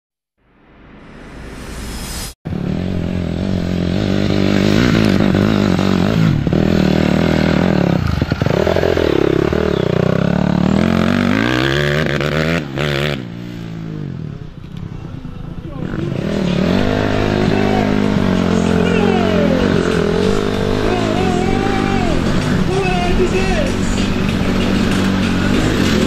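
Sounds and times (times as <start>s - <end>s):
dirt bike engine revving: 2.5s - 14.6s, 15.6s - 26.0s.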